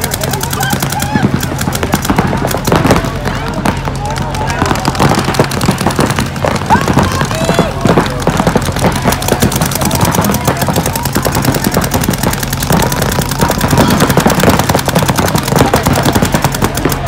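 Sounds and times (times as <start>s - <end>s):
paintball markers firing: 0.0s - 17.0s.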